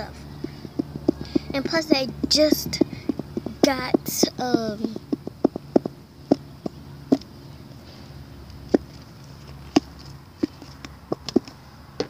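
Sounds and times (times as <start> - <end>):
handling taps and clicks: 0.0 - 7.8, 8.4 - 12.0
faint low hum: 0.0 - 12.0.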